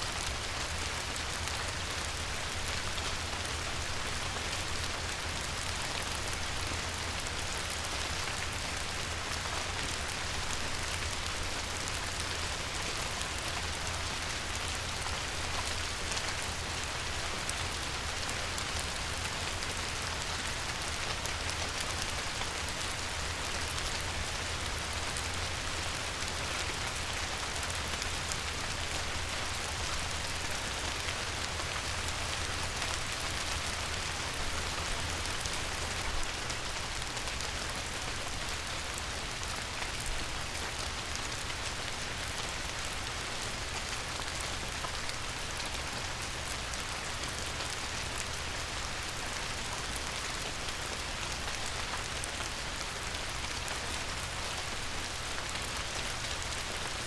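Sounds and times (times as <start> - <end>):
light rain on a river: 0.0 - 57.0.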